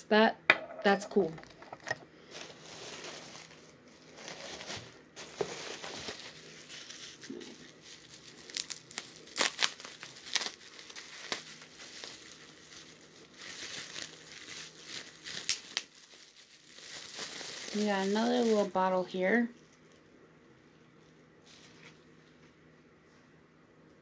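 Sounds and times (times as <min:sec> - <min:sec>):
bubble wrap crinkling: 0:01.2 - 0:20.1, 0:20.8 - 0:22.4.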